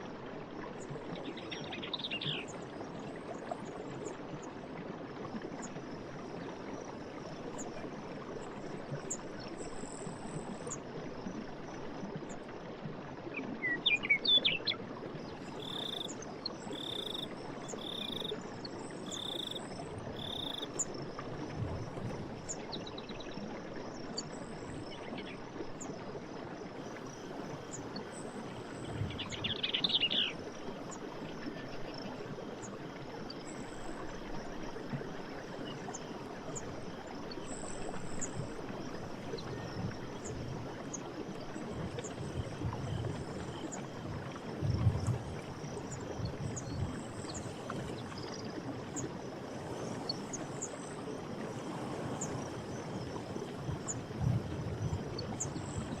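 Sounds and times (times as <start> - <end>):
faint high insect hum: 0.0 - 56.0
stream water running: 0.0 - 56.0.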